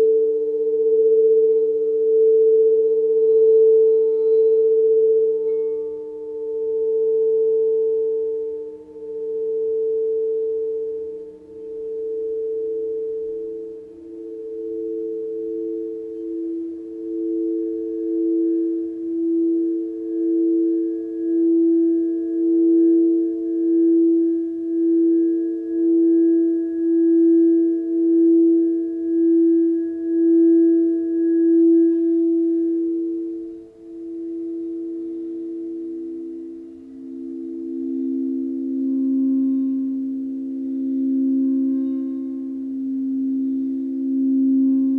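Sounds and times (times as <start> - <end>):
sustained pure tones: 0.0 - 44.9.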